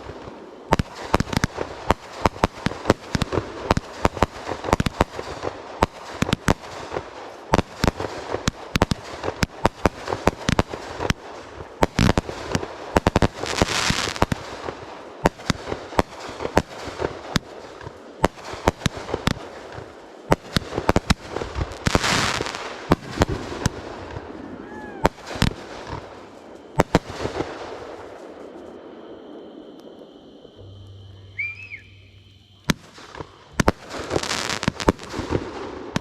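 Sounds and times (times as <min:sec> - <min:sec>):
fireworks bangs and pops: 0:00.0 - 0:28.6, 0:32.6 - 0:36.0.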